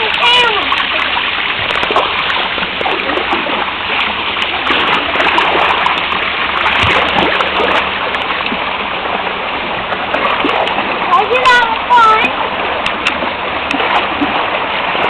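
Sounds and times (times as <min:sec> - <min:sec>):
spraying water splashing: 0:00.0 - 0:15.0.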